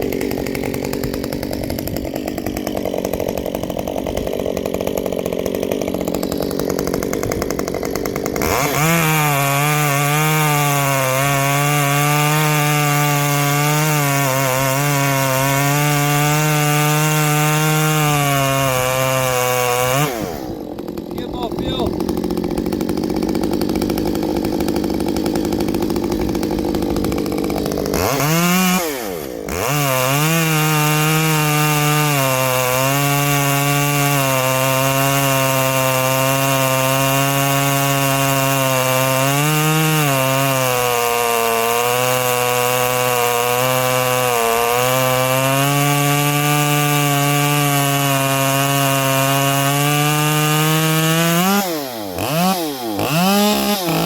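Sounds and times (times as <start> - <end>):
chainsaw running and revving: 0.0 - 54.0.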